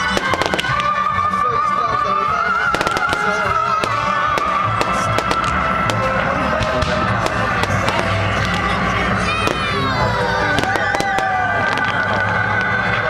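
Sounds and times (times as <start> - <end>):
fireworks bangs and crackles: 0.0 - 13.0
music with wavering melody: 0.0 - 13.0.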